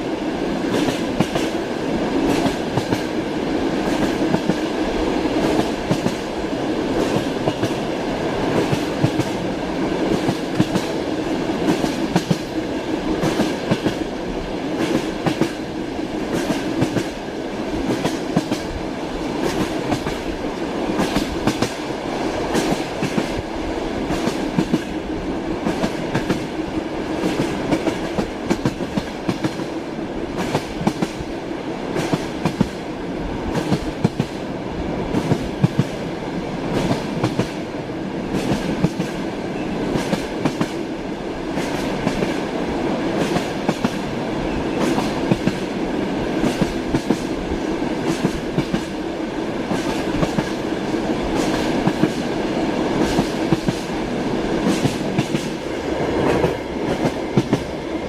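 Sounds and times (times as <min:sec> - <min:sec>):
train rumble: 0:00.0 - 0:58.0
train wheels clicking on rails: 0:00.0 - 0:58.0.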